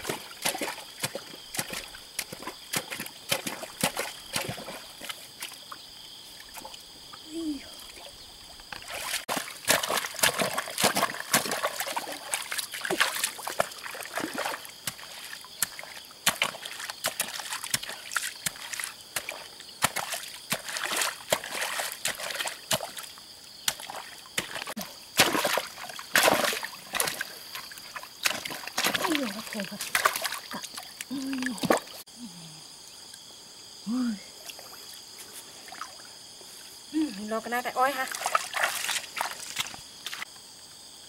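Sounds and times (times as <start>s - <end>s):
muddy water splashing: 0.0s - 32.1s, 37.0s - 40.3s.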